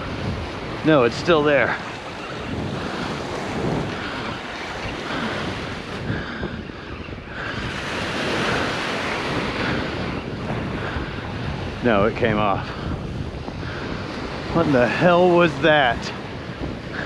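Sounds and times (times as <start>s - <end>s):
small waves washing onto sand: 0.0s - 17.0s
wind buffeting microphone: 0.0s - 17.0s.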